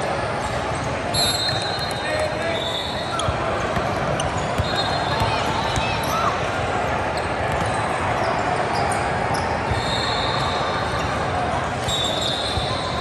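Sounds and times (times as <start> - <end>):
echoing crowd din: 0.0 - 13.0.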